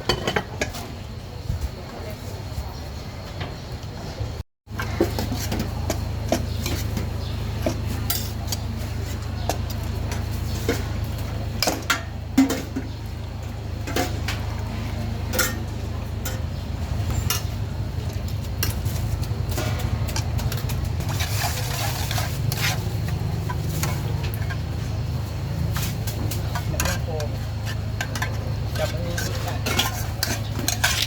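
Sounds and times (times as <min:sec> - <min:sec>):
metal utensils clinking against pots: 0:04.7 - 0:24.8, 0:25.7 - 0:31.0.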